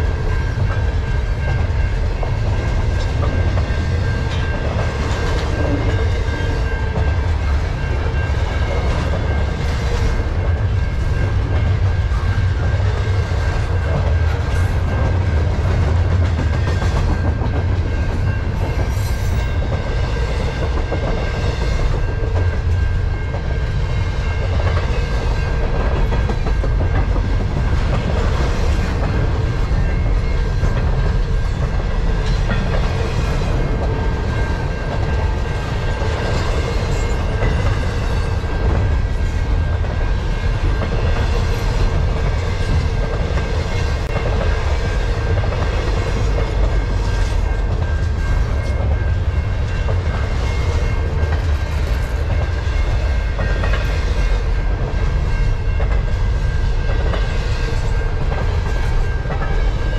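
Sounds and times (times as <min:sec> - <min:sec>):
freight train rumbling on rails: 0:00.0 - 0:59.9.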